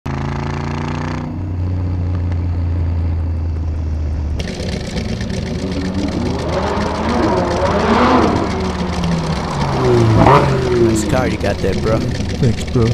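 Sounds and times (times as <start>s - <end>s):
car engine accelerating: 0.1s - 12.9s.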